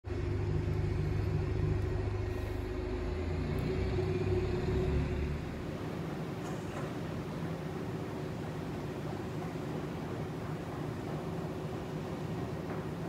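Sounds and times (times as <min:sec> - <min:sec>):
machinery hum and rumble: 0:00.1 - 0:13.0.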